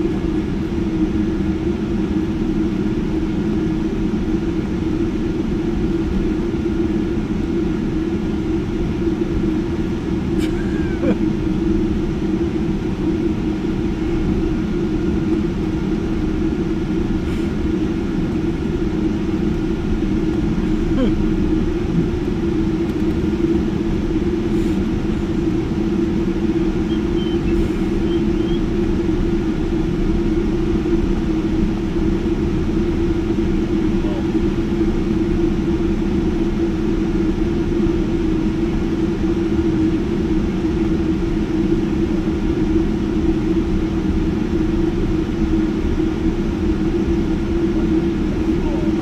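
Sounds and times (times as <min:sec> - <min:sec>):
aircraft cabin engine hum: 0:00.0 - 0:49.0.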